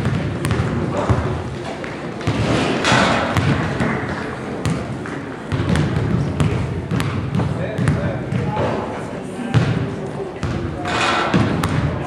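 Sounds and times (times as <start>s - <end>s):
basketball bouncing on gym floor: 0.0s - 8.7s, 9.5s - 9.8s, 10.4s - 12.0s
murmur of voices: 0.0s - 12.0s.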